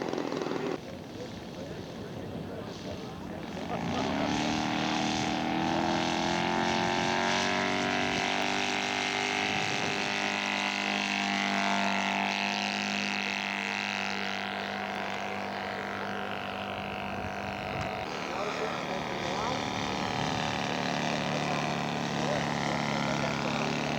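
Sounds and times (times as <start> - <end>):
model airplane engine buzzing: 0.0 - 23.9.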